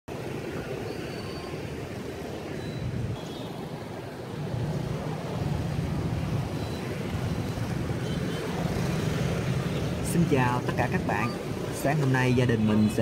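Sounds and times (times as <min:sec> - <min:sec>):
motorbike traffic rumble: 0:00.1 - 0:13.0.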